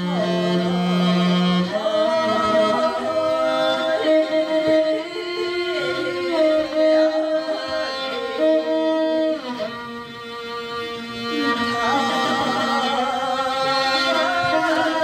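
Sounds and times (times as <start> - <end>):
bowed string instrument melody: 0.0 - 15.0.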